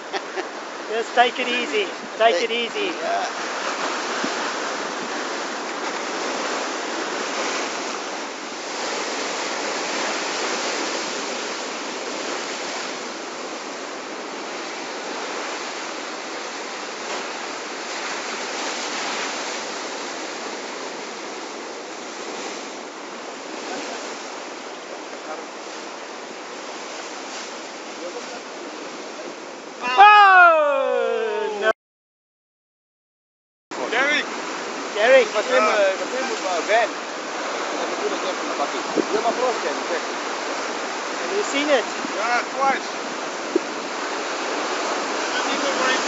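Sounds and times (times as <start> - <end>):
surf breaking on rocky shore: 0.0 - 31.7, 33.7 - 46.0.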